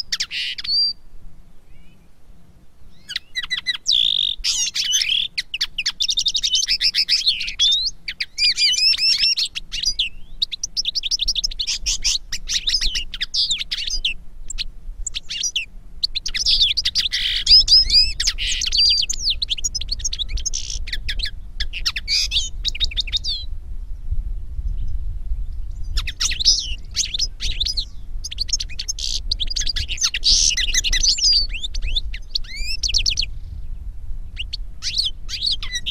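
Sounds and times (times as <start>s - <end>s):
finch twittering and trilling: 2.9s - 23.5s, 24.7s - 33.6s, 34.3s - 35.9s.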